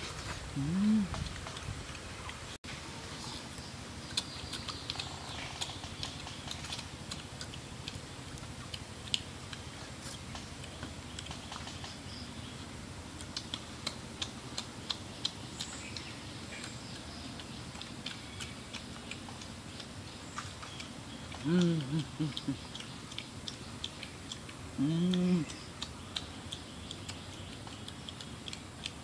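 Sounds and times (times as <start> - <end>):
low steady background noise: 0.0 - 29.0
people chewing and tearing meat: 0.0 - 29.0.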